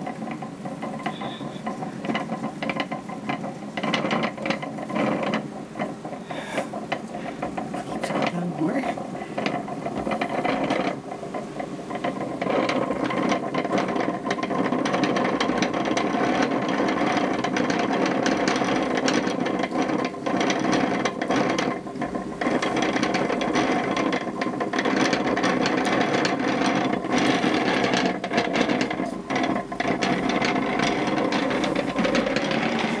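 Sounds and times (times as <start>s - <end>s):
wooden reel clicking: 0.0s - 33.0s.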